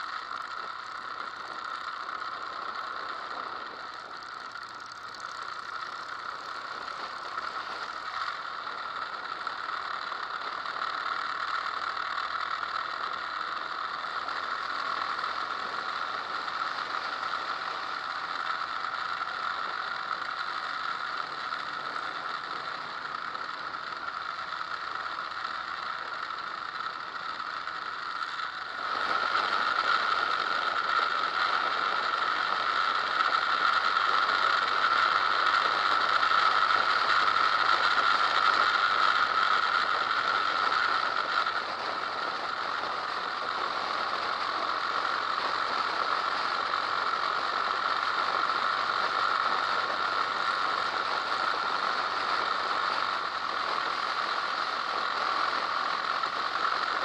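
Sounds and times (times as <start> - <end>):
motorcycle road noise: 0.0 - 57.0.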